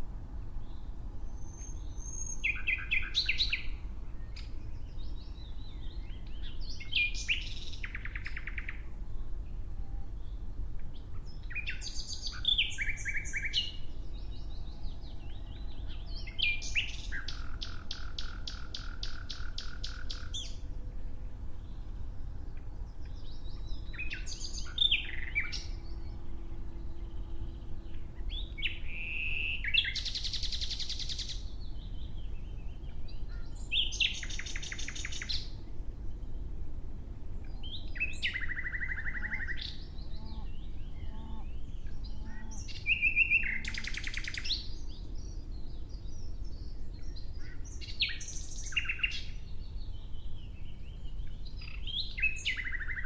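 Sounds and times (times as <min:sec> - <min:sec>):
low background rumble: 0:00.0 - 0:30.3, 0:31.1 - 0:53.0
nightingale singing: 0:00.6 - 0:08.9, 0:09.5 - 0:20.6, 0:22.5 - 0:36.5, 0:37.4 - 0:53.0.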